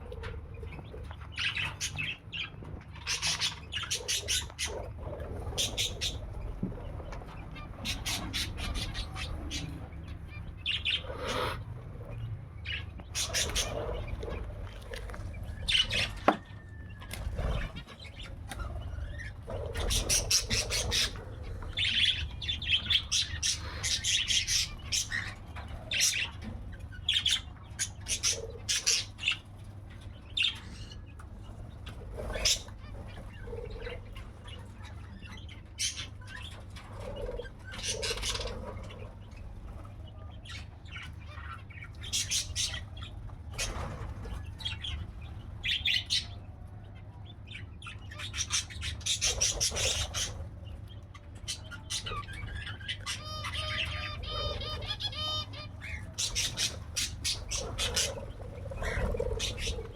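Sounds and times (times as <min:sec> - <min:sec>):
birds chirping and squawking: 0:00.0 - 0:59.9.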